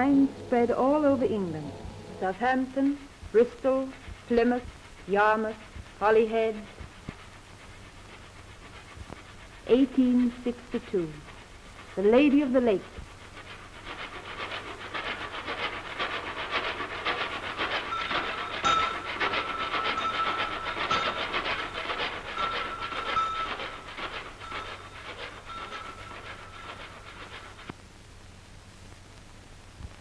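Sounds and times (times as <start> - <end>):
steam locomotive chuffing: 0.0 - 27.7.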